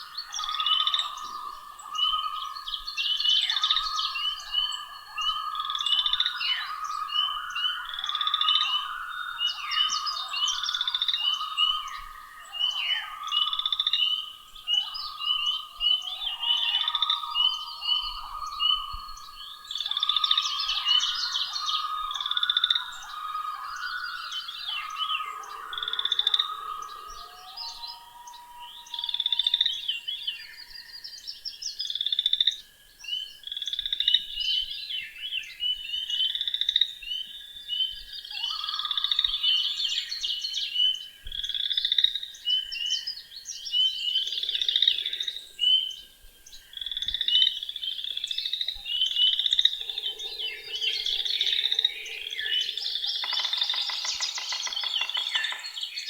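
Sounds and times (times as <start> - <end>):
low repeated trilling call: 0.0 - 31.1, 38.0 - 56.0
frogs calling: 0.0 - 56.0
songbirds singing: 0.0 - 56.0.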